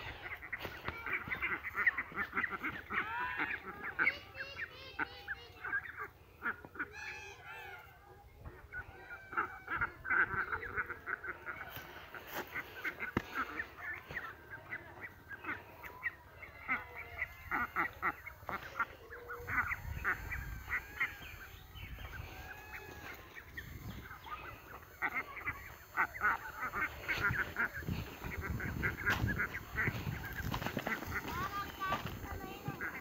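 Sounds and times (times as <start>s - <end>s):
ducks quacking: 0.0s - 33.0s.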